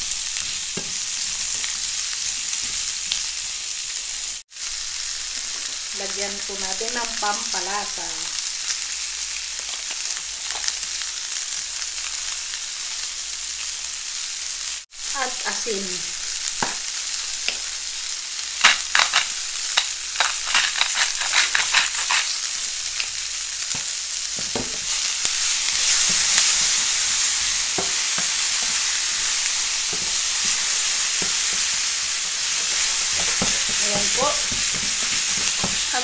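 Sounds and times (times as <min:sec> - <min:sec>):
onions sizzling in a frying pan: 0:00.0 - 0:36.0.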